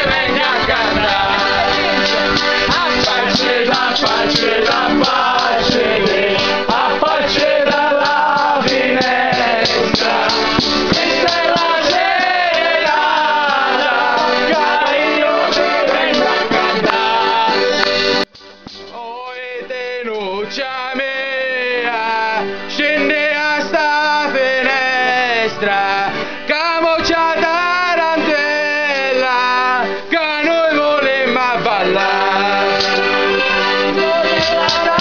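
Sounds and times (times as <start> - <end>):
voices singing: 0.0 - 18.3, 18.9 - 35.0
accordions playing folk music: 0.0 - 35.0.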